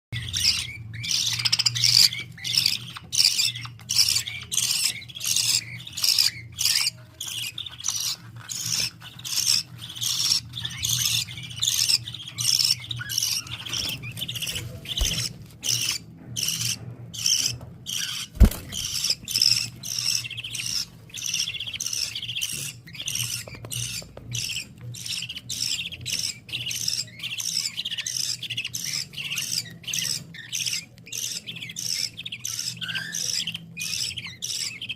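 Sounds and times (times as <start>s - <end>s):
baby birds chirping: 0.1s - 34.9s.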